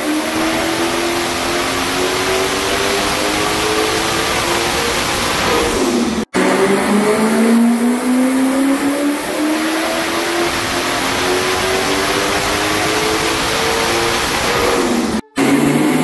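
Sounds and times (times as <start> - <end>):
engine revving at full throttle: 0.0 - 16.0.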